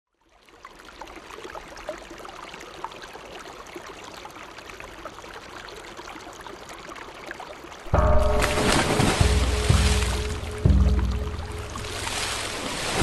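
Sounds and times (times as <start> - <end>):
water trickling and bubbling: 0.1 - 13.0
water drips: 0.3 - 13.0.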